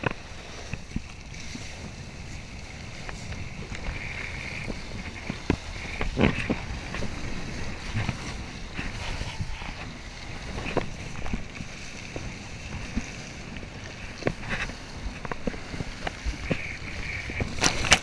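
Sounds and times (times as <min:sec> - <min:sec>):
water rushing and spraying: 0:00.0 - 0:18.0
wind noise on microphone: 0:00.0 - 0:18.0.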